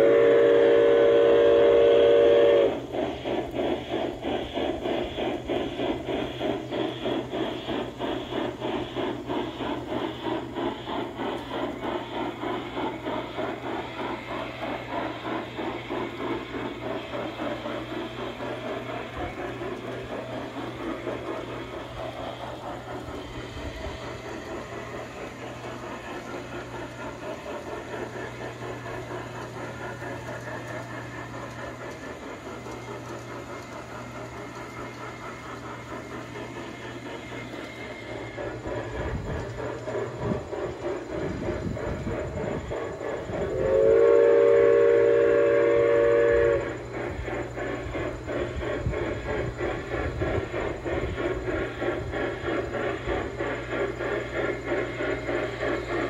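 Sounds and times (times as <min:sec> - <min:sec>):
model train clattering over bridge: 0:00.0 - 0:56.0.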